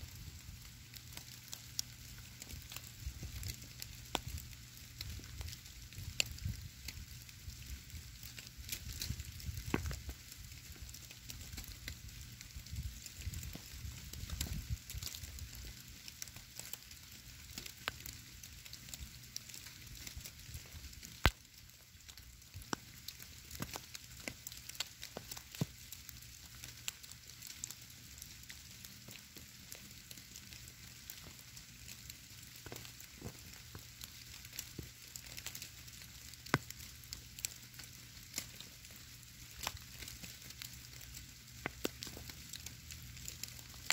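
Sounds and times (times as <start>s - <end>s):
snowflakes ticking: 0.0s - 43.9s
soft steady hiss of snowfall: 0.0s - 43.9s.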